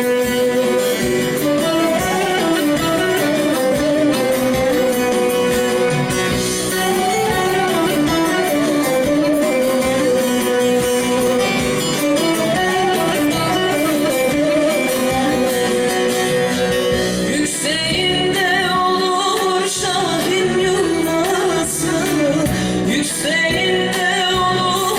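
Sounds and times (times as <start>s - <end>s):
plucked string folk music: 0.0s - 24.9s.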